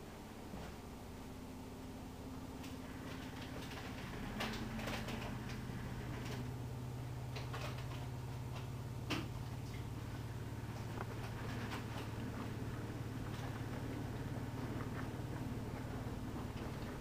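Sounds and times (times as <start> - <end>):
dishwasher pump hum: 0.0 - 17.0.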